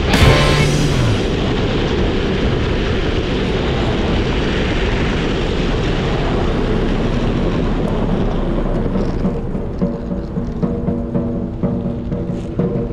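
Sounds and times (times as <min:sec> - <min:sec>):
skateboard wheels rolling on pavement: 0:00.0 - 0:12.9.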